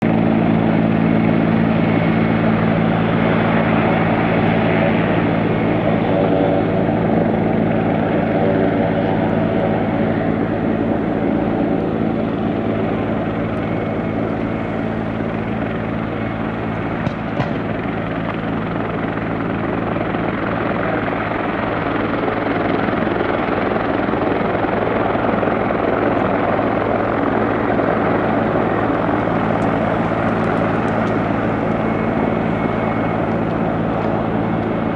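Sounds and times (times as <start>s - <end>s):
aircraft engine droning: 0.0s - 34.9s.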